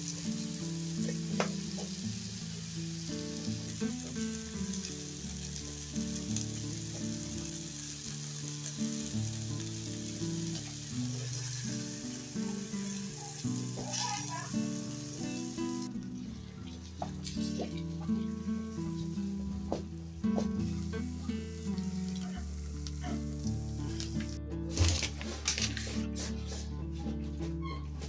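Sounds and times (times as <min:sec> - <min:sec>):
food sizzling in oil: 0:00.0 - 0:25.6
music track: 0:00.0 - 0:28.0.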